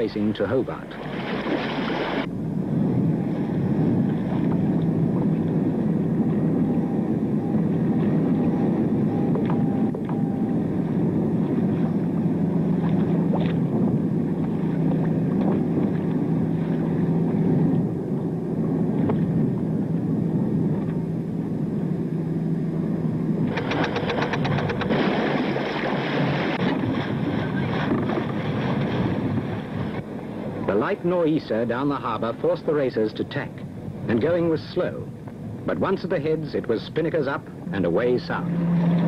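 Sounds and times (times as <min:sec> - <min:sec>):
motorboat engines humming: 0:00.0 - 0:39.0.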